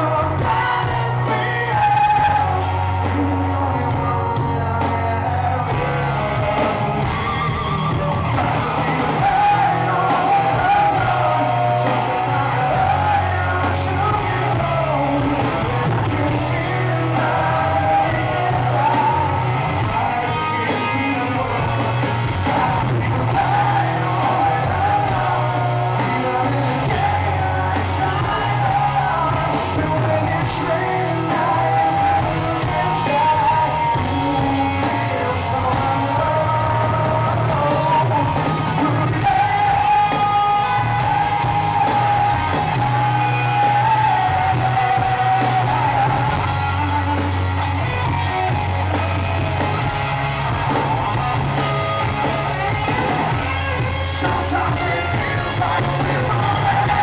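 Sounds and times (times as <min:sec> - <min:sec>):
live rock band playing: 0:00.0 - 0:57.0
male lead singer: 0:00.0 - 0:57.0.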